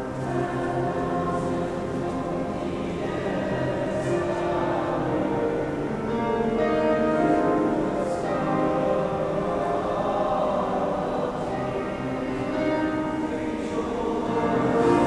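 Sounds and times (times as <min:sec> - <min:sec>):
boys choir singing: 0:00.0 - 0:15.0.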